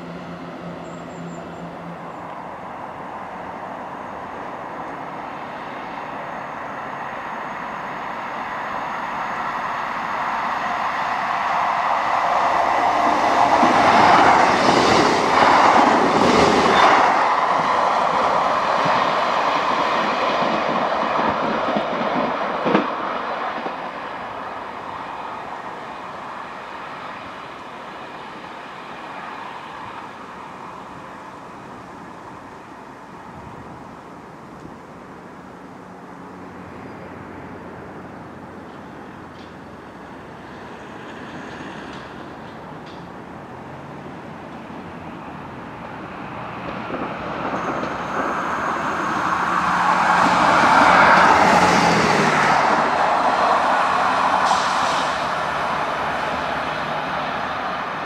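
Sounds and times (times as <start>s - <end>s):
train engine and wheel rumble: 0.0s - 58.0s.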